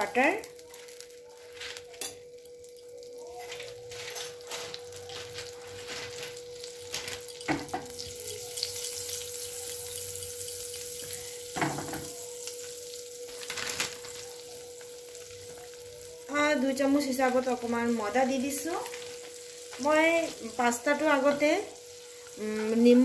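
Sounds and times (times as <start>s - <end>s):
butter sizzling in pan: 0.0s - 23.0s.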